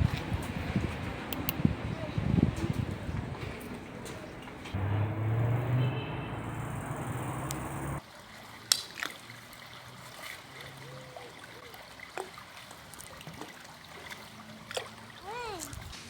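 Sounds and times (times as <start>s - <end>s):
water trickling in a stream: 0.0s - 16.0s.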